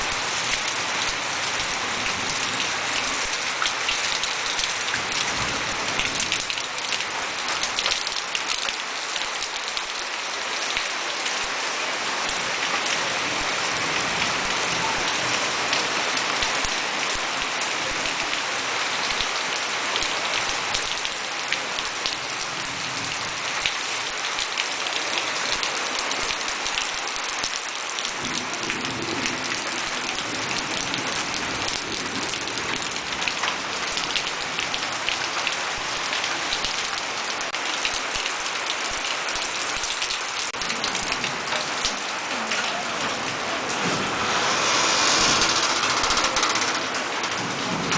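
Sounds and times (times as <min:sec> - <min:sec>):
raindrops ticking on surfaces: 0:00.0 - 0:47.9
steady rain hiss: 0:00.0 - 0:47.9.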